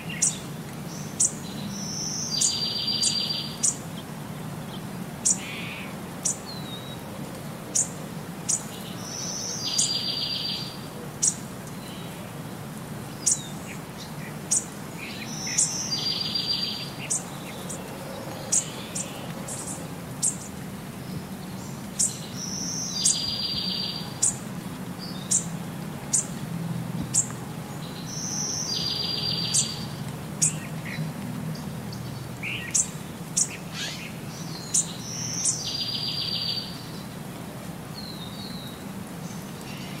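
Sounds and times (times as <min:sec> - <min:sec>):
birds chirping: 0:00.0 - 0:12.4, 0:13.0 - 0:37.2.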